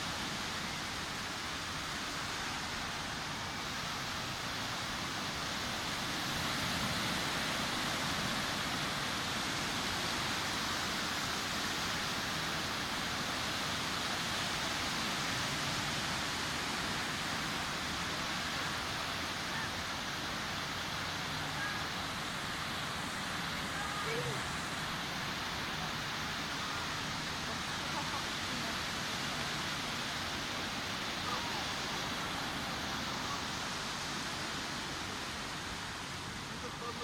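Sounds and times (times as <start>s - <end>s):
ocean surf on a beach: 0.0s - 37.0s.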